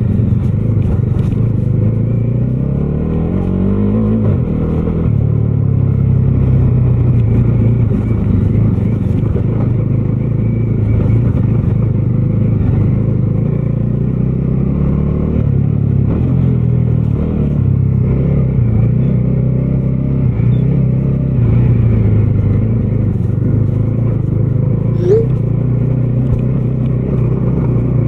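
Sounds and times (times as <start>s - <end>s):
motorcycle engine running: 0.0s - 2.9s, 5.2s - 28.0s.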